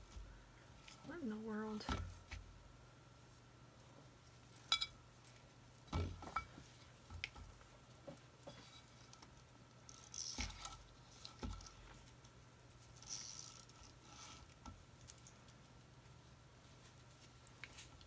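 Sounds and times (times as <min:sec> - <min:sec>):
rustle of materials: 0:03.2 - 0:18.0.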